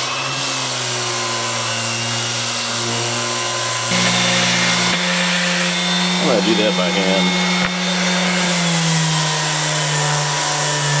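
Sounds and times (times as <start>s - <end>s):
power sander on wood: 0.0s - 11.0s.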